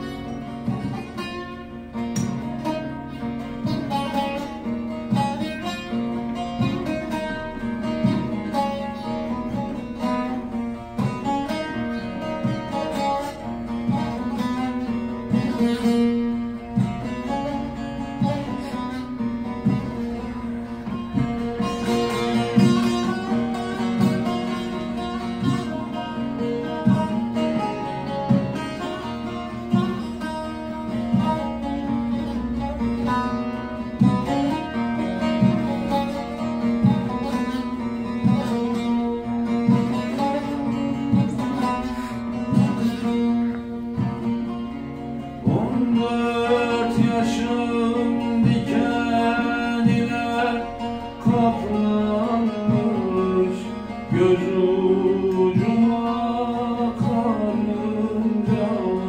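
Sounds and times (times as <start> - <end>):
man singing folk song: 0.0 - 44.3, 45.2 - 59.0
lutes strummed and plucked: 0.0 - 59.0.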